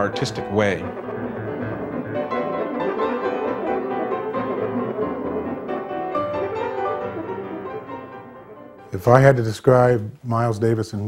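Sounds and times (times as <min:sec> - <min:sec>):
piano notes and chords: 0:00.0 - 0:09.4.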